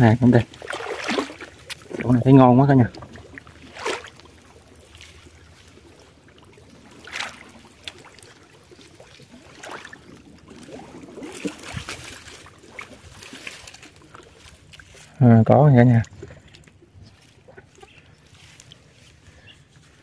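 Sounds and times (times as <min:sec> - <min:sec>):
grass rustling: 0:00.0 - 0:20.0
soft water splashes: 0:00.0 - 0:20.0.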